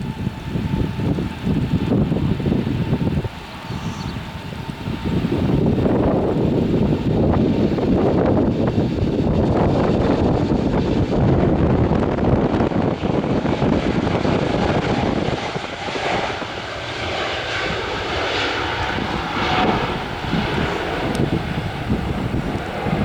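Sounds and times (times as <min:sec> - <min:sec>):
airliner engines passing: 0:00.0 - 0:23.0.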